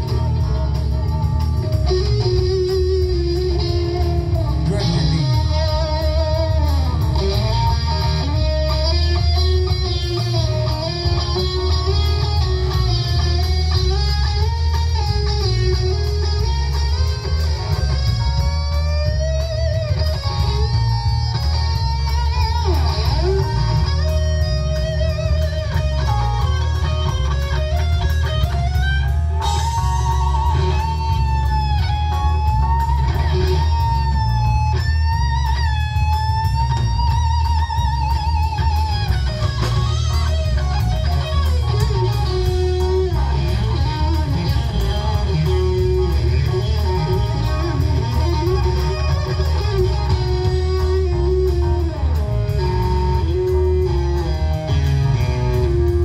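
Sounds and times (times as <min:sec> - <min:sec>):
lead electric guitar: 0:00.0 - 0:56.0
live rock band playing: 0:00.0 - 0:56.0.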